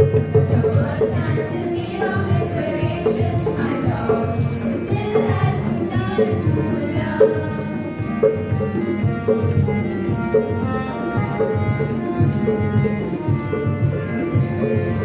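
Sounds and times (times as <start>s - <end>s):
instrumental music with steady beat: 0.0s - 15.0s
jingling percussion: 0.4s - 15.0s.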